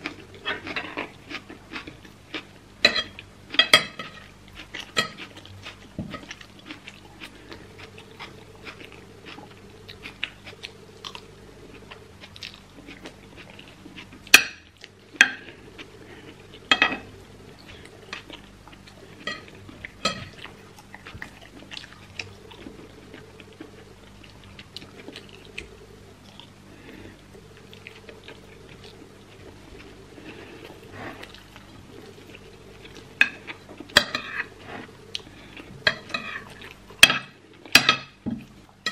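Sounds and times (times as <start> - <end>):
close-up chewing: 0.0 - 37.8.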